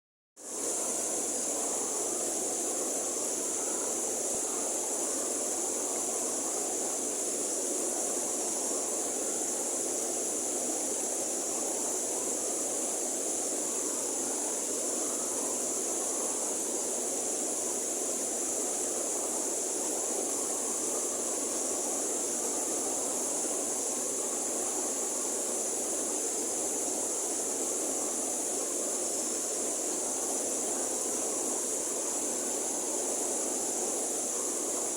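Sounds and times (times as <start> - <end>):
high hiss: 0.4 - 34.9.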